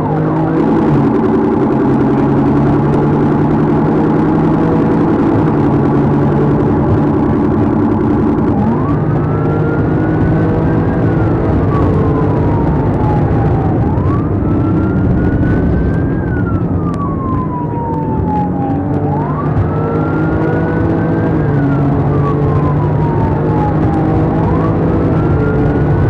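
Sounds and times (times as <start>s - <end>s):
police siren wailing: 0.0s - 26.0s
vehicle engine and road noise: 0.0s - 26.0s.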